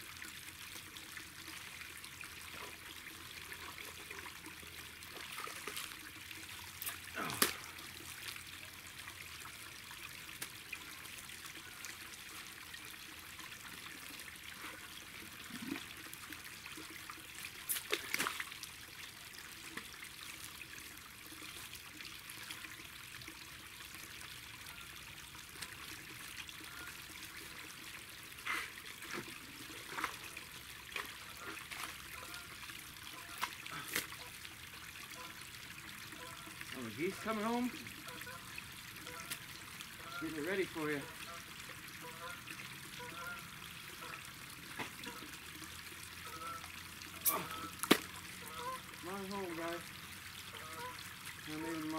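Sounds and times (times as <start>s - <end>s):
water trickling through a dam: 0.0s - 51.9s.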